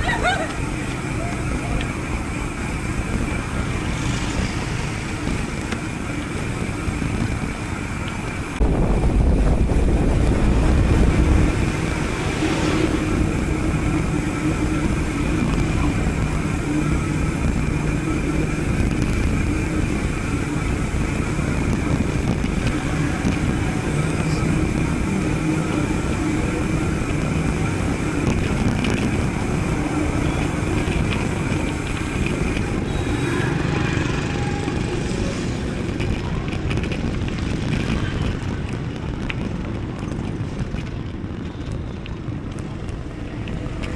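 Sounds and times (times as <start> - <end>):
wind rumble on microphone: 0.0 - 34.2, 35.2 - 43.9
bike rolling and rattling: 0.0 - 43.9.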